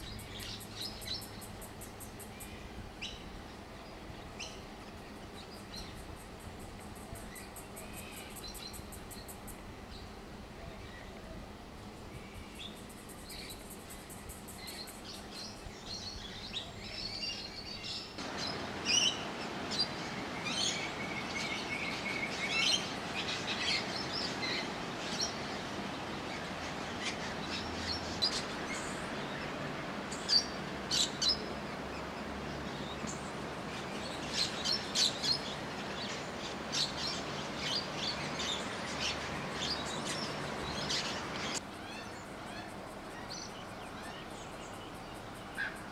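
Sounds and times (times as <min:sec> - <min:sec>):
steady background hiss: 0:00.0 - 0:45.9.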